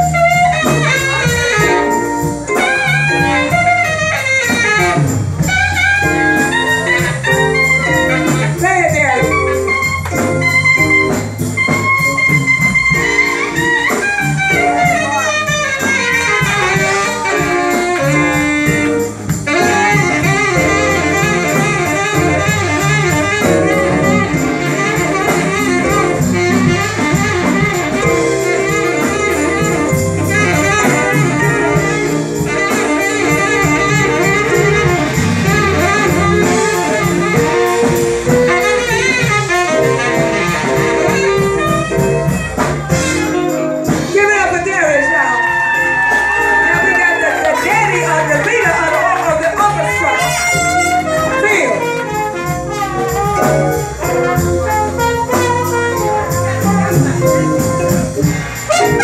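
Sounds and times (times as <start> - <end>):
drum kit rhythm: 0.0 - 59.0
horn soloing: 0.0 - 59.0.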